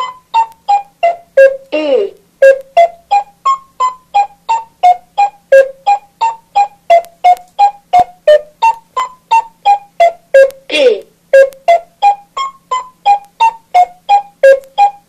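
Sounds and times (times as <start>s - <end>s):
plinky electronic toy tune: 0.0s - 1.8s, 2.4s - 10.7s, 11.3s - 15.0s.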